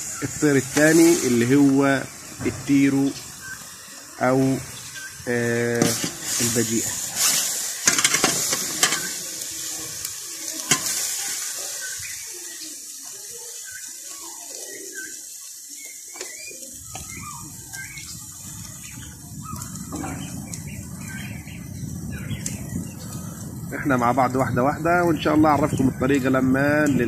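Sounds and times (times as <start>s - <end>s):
meat sizzling and bubbling in pan: 0.0s - 27.0s.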